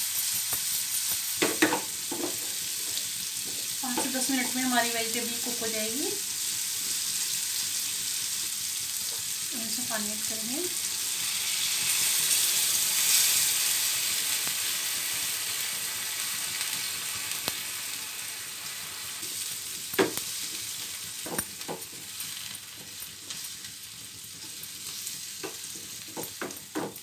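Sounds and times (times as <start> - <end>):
water sizzling in hot pan: 0.0 - 27.0.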